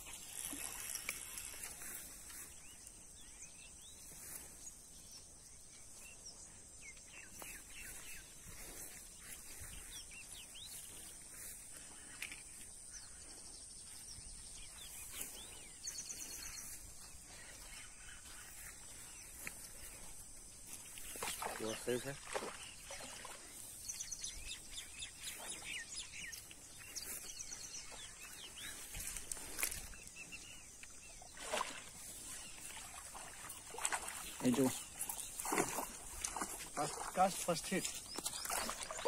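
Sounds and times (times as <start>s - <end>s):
bird chirps: 5.0s - 39.0s.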